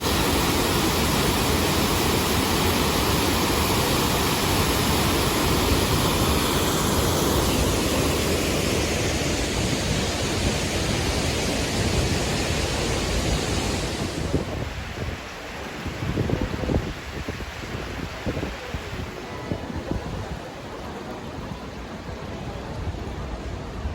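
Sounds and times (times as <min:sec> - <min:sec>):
water falling and splashing: 0:00.0 - 0:20.0.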